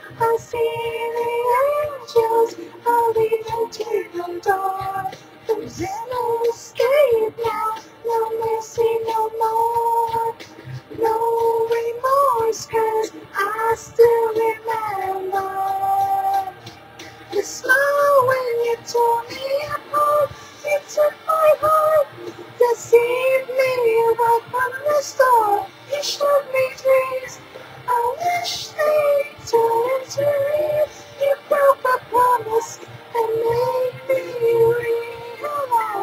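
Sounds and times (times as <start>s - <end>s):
woman singing: 0.0s - 16.7s, 17.3s - 36.0s
quiet backing track: 0.0s - 36.0s.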